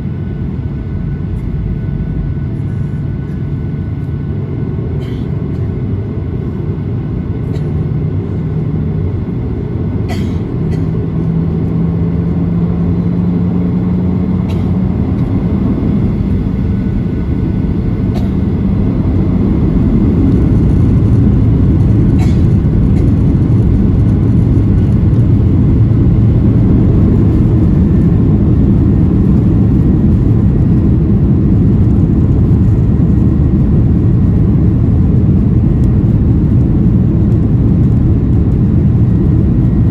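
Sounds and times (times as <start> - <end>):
airplane cabin rumble: 0.0 - 39.9
engine hum: 0.0 - 39.9.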